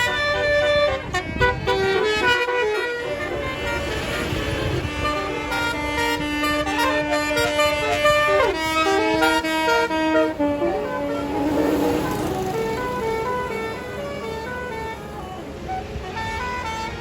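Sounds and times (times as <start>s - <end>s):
musical air horn playing tune: 0.0s - 17.0s.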